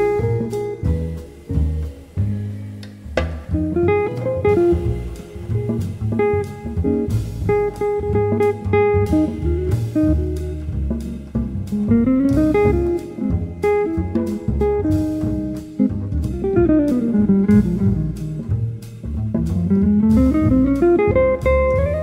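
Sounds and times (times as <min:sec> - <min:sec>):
instrumental jazz music: 0:00.0 - 0:22.0.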